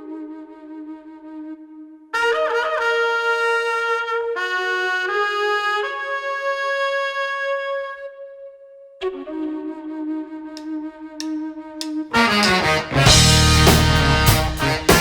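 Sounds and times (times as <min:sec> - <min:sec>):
solo wind instrument melody: 0:00.0 - 0:15.0.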